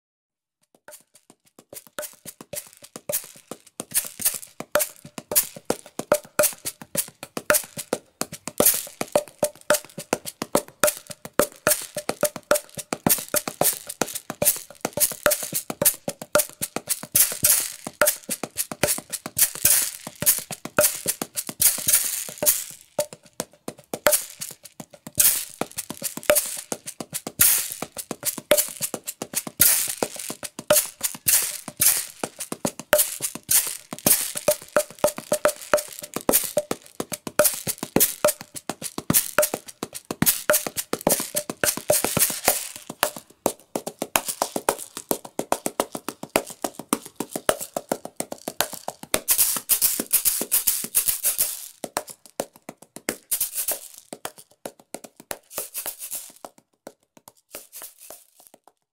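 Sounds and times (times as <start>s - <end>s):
hand shaker rattling and clicking: 0.7s - 58.9s.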